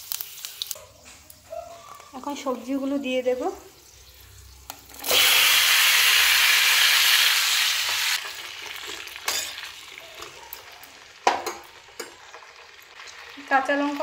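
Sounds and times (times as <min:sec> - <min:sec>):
vegetables sizzling in hot oil: 0:00.0 - 0:00.8, 0:02.4 - 0:14.0.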